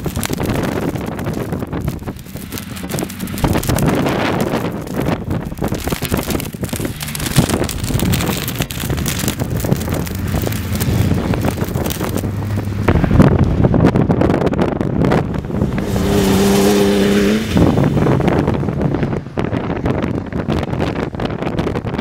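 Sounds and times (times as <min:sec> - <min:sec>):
truck engines running hard: 0:00.0 - 0:22.0
wind buffeting microphone: 0:00.0 - 0:22.0.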